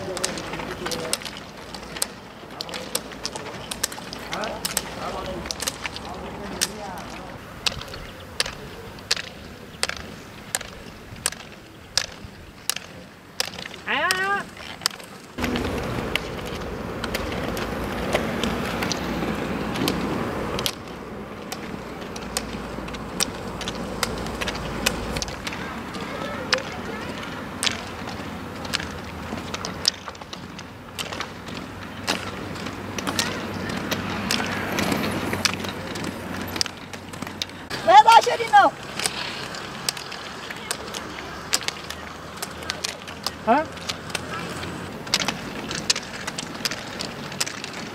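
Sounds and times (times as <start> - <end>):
roller ski wheels rolling: 0.0 - 47.9
ski pole tips clicking on asphalt: 0.0 - 47.9.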